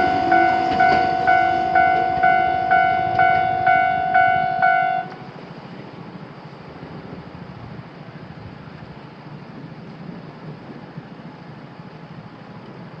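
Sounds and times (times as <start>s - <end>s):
road traffic rumble and hiss: 0.0s - 13.0s.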